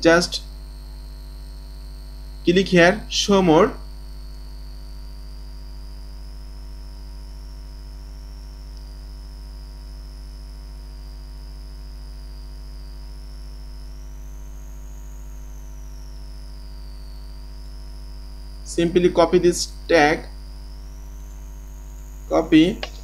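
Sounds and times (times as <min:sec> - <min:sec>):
electrical hum: 0:00.0 - 0:23.0
faint high whine: 0:00.0 - 0:23.0.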